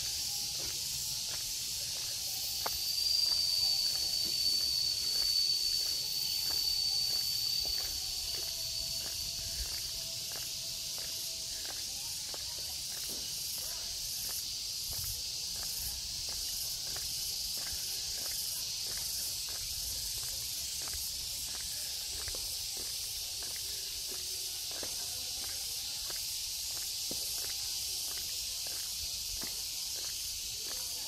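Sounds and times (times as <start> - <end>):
footsteps walking: 0.0 - 31.0
high-pitched insect drone: 0.0 - 31.0.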